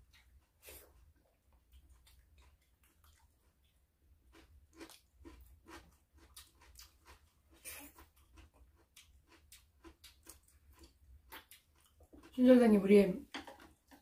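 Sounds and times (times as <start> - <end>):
chewing raw vegetables: 0.0 - 12.6.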